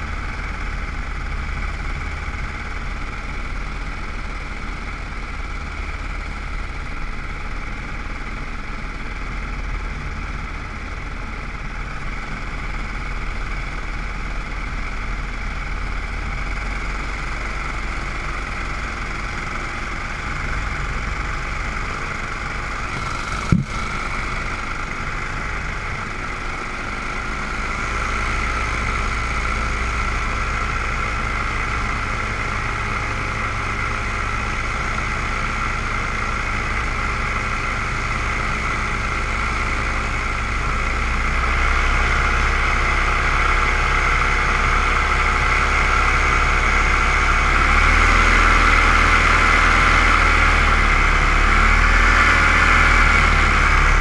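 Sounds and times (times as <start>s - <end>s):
drone motors and propellers humming: 0.0s - 54.0s.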